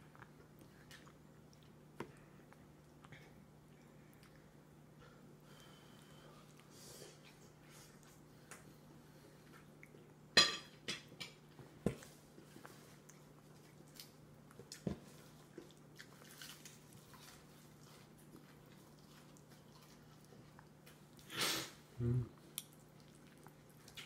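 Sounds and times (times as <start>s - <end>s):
soft chewing and squishing: 0.0s - 10.3s, 11.0s - 21.3s, 22.3s - 24.0s
faint steady hum: 0.0s - 24.0s.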